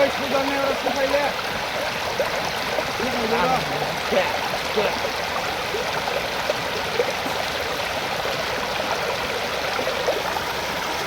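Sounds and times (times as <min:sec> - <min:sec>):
water flowing over rocks: 0:00.0 - 0:11.0.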